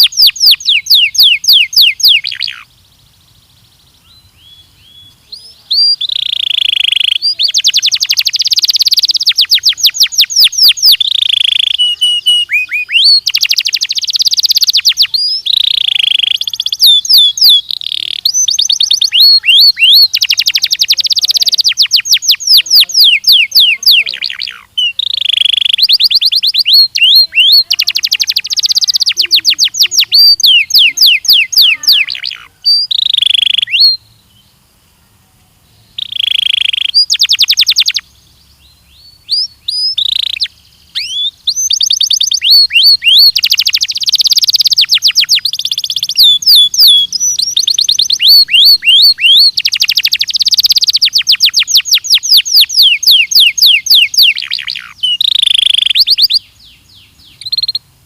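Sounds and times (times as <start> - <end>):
canary singing in trills: 0.0 - 34.6, 35.6 - 58.0.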